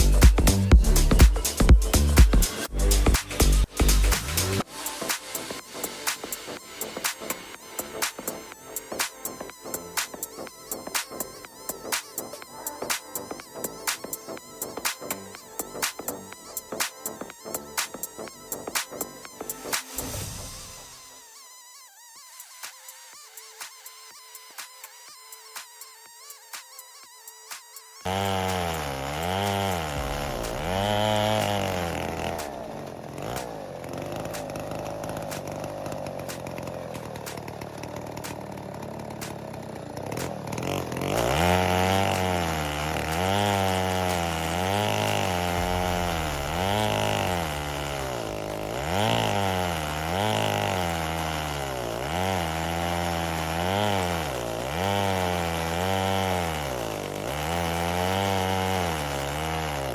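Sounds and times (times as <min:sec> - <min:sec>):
chainsaw ripping a log: 0:00.0 - 0:59.9.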